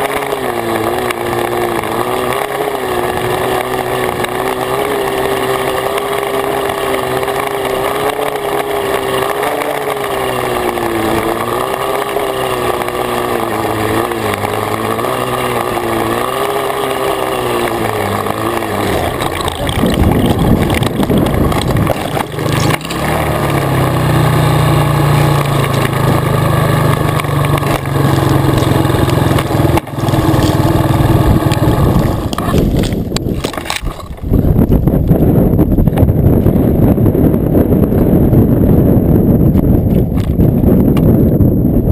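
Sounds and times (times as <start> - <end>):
dirt bike engine running: 0.0 - 41.9
rough rumble: 0.0 - 41.9.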